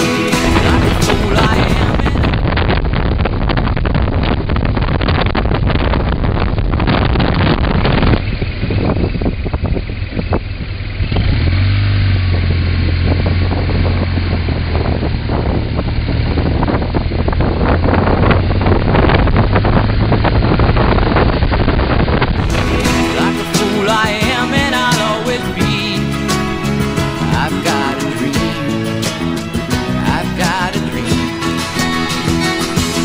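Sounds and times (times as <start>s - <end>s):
motorcycle engine drone: 0.0s - 33.0s
wind buffeting microphone: 0.3s - 33.0s.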